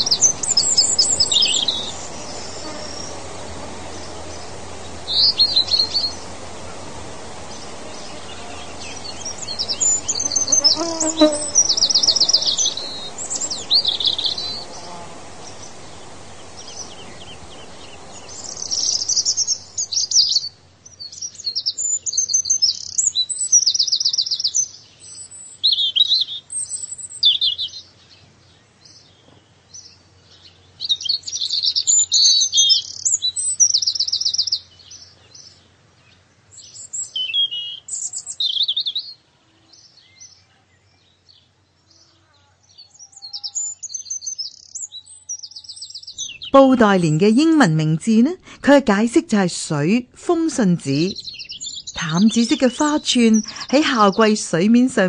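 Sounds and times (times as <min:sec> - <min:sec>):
soft rushing hiss: 0:00.0 - 0:25.5, 0:26.6 - 0:55.0
birds chirping and trilling: 0:00.0 - 0:55.0.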